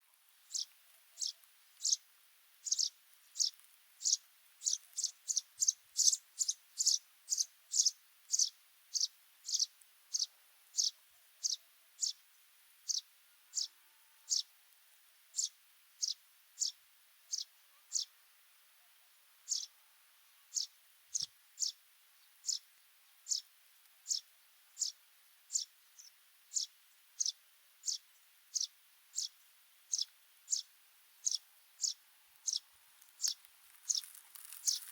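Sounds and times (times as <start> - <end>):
sparrow chirping: 0.4 - 13.7, 14.3 - 14.5, 15.3 - 18.2, 19.4 - 19.8, 20.4 - 34.9.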